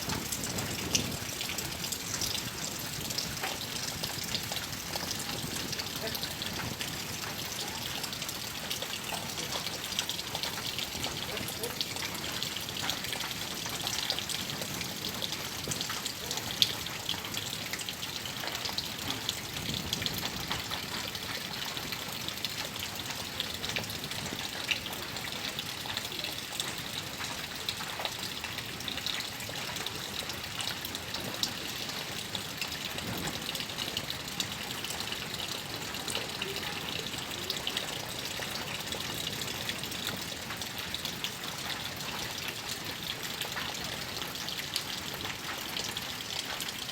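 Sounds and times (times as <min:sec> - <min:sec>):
rain on a tin roof: 0:00.0 - 0:46.9
rain on pond water: 0:00.0 - 0:46.9.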